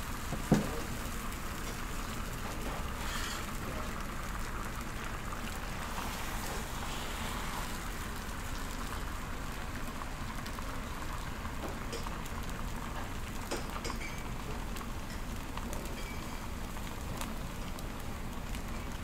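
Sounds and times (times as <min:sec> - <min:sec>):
egg sizzling on griddle: 0:00.0 - 0:19.0.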